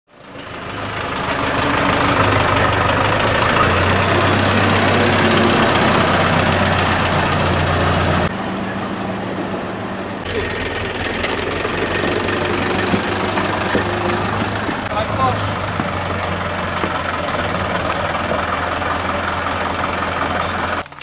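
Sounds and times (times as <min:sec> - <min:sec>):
tractor diesel engine idling: 0:00.1 - 0:21.0.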